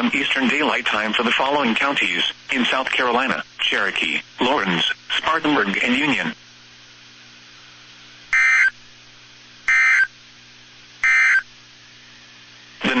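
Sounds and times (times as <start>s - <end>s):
receiver low hum: 0.0s - 13.0s.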